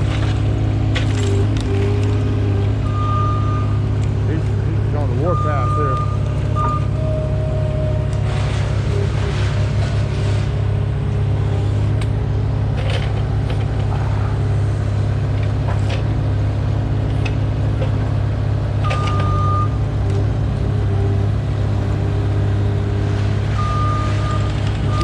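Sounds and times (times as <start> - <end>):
truck engine humming: 0.0 - 25.0.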